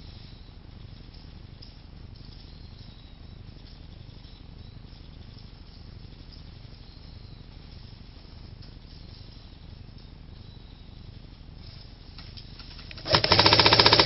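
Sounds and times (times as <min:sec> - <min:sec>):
faint high chirping: 0:00.0 - 0:12.6.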